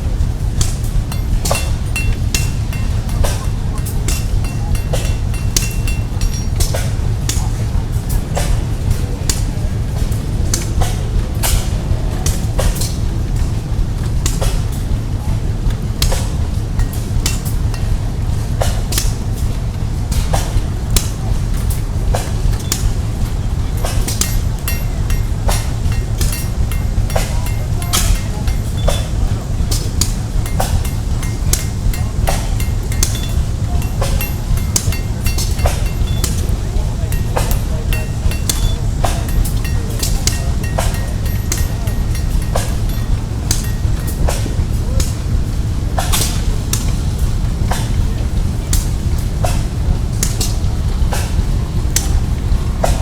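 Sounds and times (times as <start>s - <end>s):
steady low rumble: 0.0s - 53.0s
hammer striking metal on anvil: 0.2s - 13.5s, 14.2s - 53.0s.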